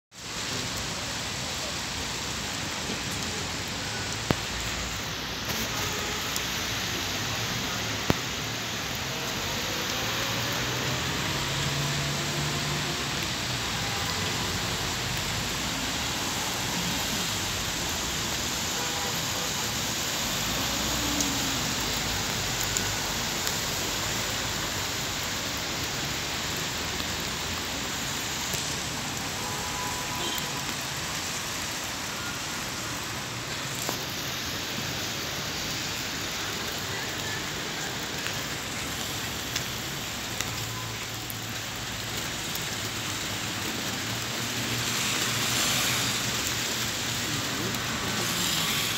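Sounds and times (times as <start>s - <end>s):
rain on wet pavement: 0.1s - 48.9s
faint road traffic: 0.2s - 48.9s.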